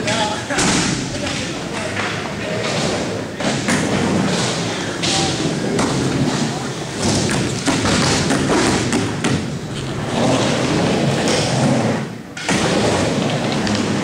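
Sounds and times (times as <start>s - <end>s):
skateboard wheels rolling: 0.0s - 14.0s
skateboard thuds: 0.1s - 11.8s.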